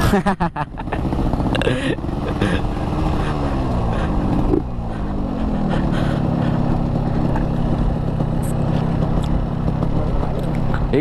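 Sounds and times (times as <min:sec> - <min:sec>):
motorcycle engine moving: 0:00.0 - 0:11.0.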